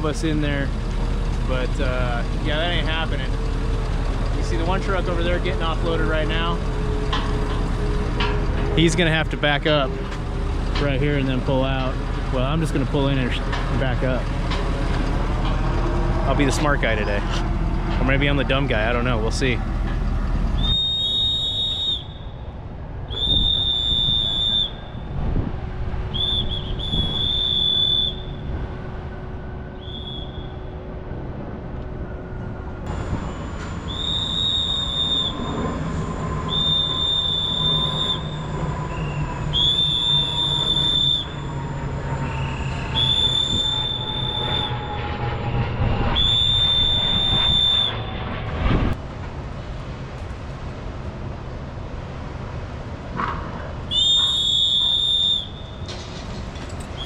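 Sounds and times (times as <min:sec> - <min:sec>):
truck engine running: 0:00.0 - 0:22.3, 0:23.1 - 0:49.8
high-pitched squeal: 0:00.0 - 0:31.3, 0:32.0 - 0:49.0.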